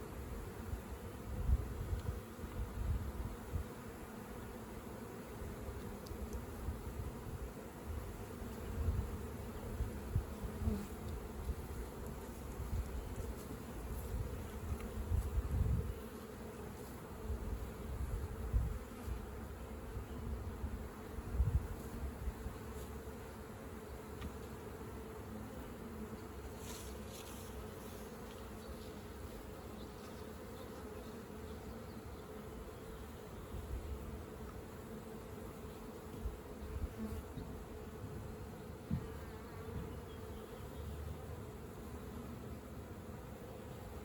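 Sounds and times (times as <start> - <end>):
honeybees buzzing: 0.0 - 44.0.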